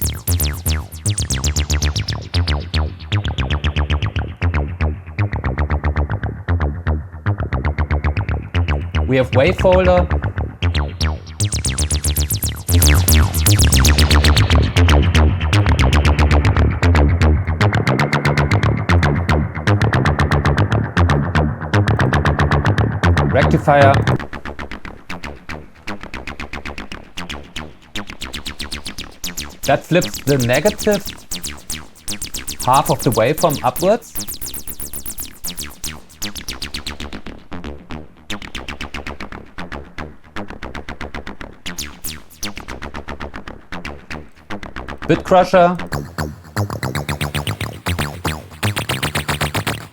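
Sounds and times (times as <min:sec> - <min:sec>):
buzzy acid synth bassline: 0:00.0 - 0:49.9.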